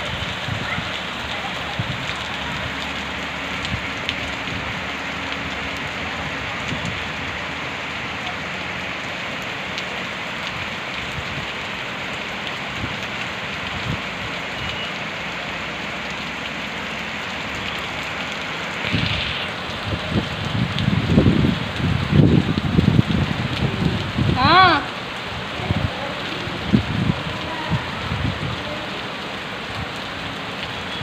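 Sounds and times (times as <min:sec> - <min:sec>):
heavy rain splashing: 0:00.0 - 0:31.0.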